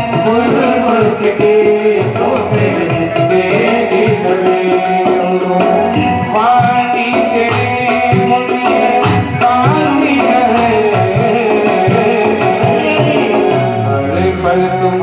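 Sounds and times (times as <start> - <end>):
devotional music melodic notes: 0.0 - 15.0
tabla rhythm: 0.0 - 15.0.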